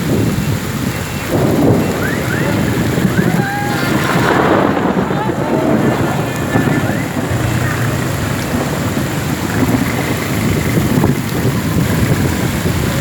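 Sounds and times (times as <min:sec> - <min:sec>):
heavy rain falling: 0:00.0 - 0:13.0
wind buffeting microphone: 0:00.0 - 0:13.0.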